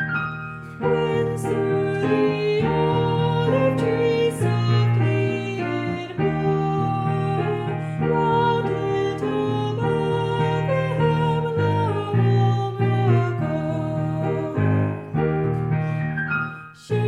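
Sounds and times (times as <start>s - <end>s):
piano accompaniment: 0.0s - 17.0s
person singing carol: 0.8s - 15.2s, 16.8s - 17.0s.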